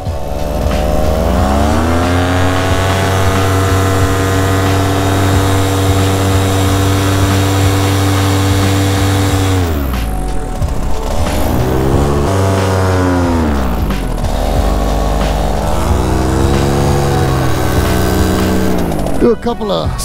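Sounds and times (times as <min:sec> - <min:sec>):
paramotor engine and propeller: 0:00.0 - 0:19.3.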